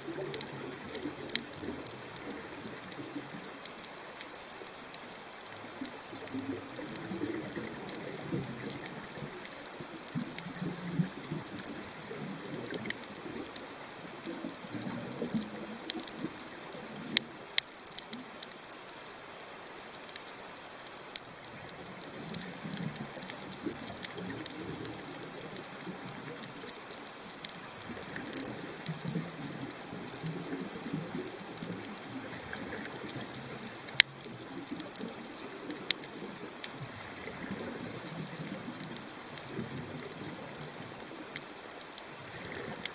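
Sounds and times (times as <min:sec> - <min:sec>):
underwater water gurgling: 0:00.0 - 0:20.4, 0:21.0 - 0:42.9.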